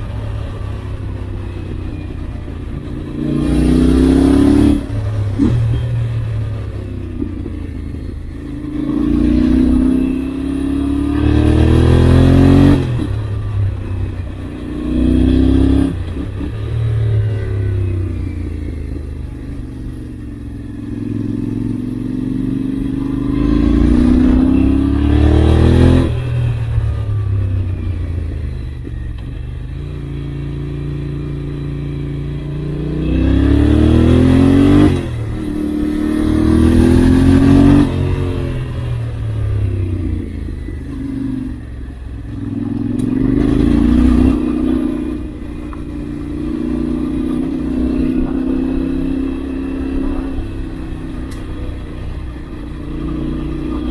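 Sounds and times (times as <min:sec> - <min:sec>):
motorcycle engine revving through gears: 0:00.0 - 0:53.9.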